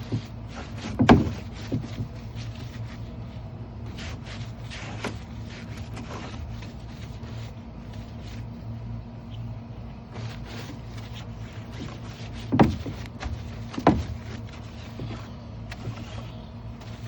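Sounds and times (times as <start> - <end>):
brush scrubbing plastic bin: 0.0 - 8.8, 10.1 - 17.0.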